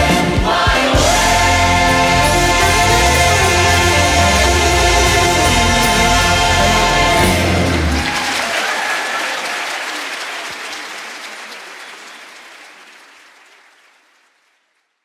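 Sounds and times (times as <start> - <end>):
congregation applauding: 0.5 - 15.0.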